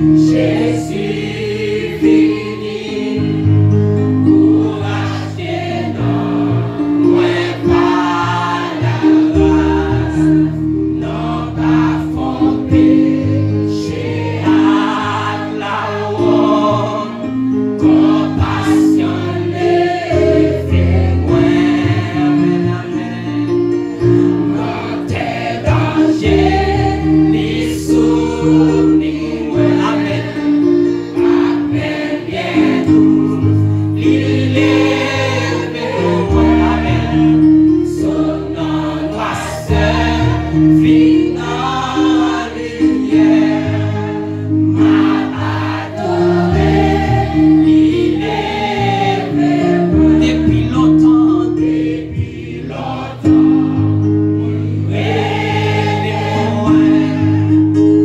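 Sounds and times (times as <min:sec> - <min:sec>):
gospel instrumental accompaniment: 0:00.0 - 0:58.0.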